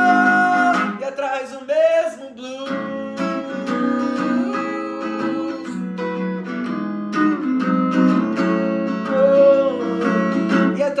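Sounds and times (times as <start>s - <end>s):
person singing: 0.0s - 6.4s, 8.1s - 11.0s
acoustic guitar strummed: 0.0s - 11.0s.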